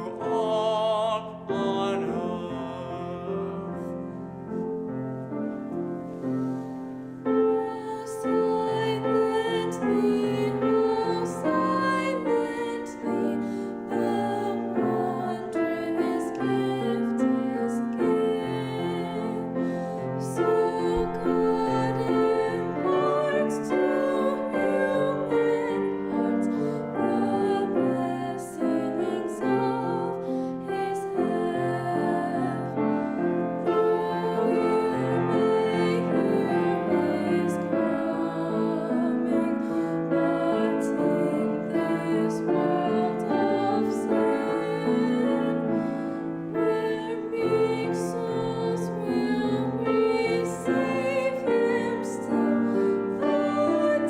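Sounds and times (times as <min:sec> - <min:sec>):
choir singing: 0:00.0 - 0:54.0
piano accompaniment: 0:00.0 - 0:54.0.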